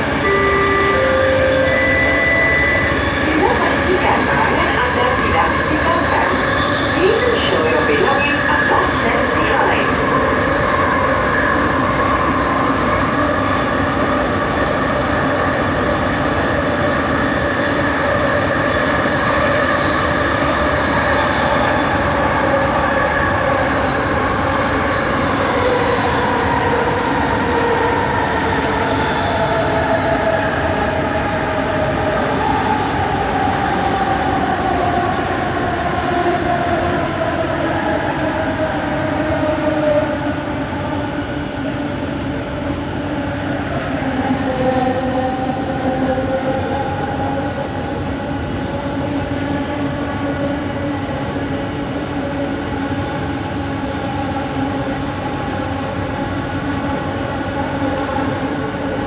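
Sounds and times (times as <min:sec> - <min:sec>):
metro train interior running: 0:00.0 - 0:59.0.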